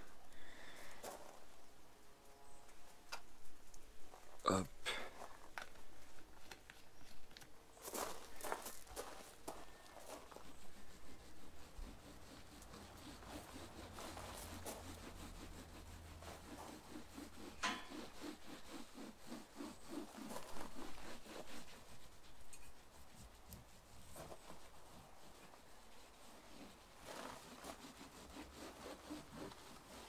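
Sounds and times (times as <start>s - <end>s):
sponge scrubbing painted wall: 0.0s - 2.6s, 7.8s - 30.0s.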